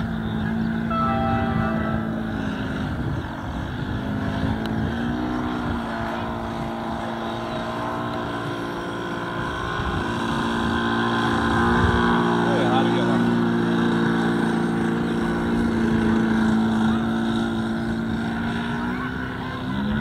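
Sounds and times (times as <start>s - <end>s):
model airplane engine running: 0.0s - 20.0s.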